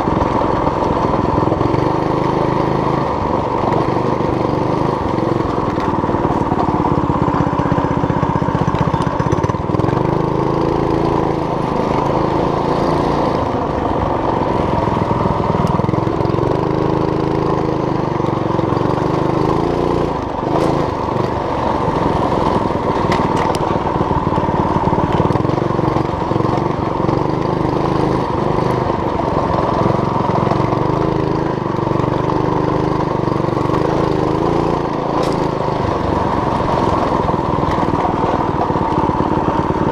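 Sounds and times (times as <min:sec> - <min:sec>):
mini bike engine revving: 0:00.0 - 0:39.9.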